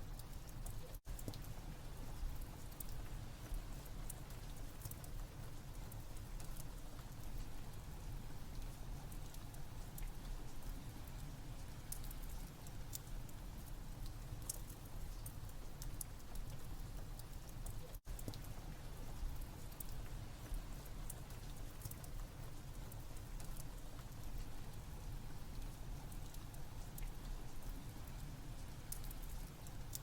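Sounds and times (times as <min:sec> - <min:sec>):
steady rain: 0:00.0 - 0:30.0
wood fire crackling: 0:00.1 - 0:30.0.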